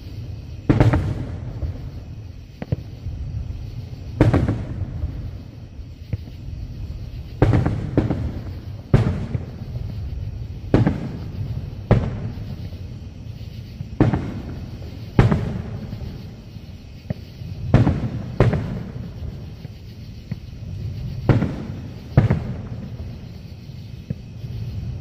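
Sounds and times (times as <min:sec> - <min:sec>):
firework shells booming: 0:00.0 - 0:12.9, 0:13.6 - 0:25.0.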